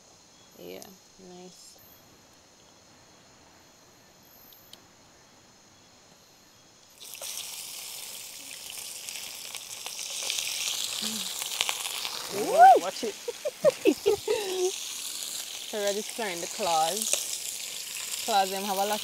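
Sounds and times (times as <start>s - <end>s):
crickets chirring: 0.0s - 19.0s
hiss with crackles: 0.0s - 19.0s.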